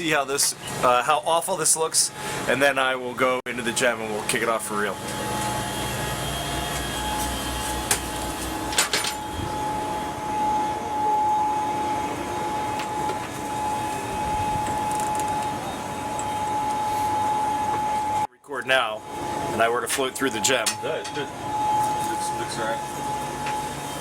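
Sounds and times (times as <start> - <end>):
steady whine: 0.0 - 24.0
ventilation fan whirr and hiss: 0.0 - 24.0.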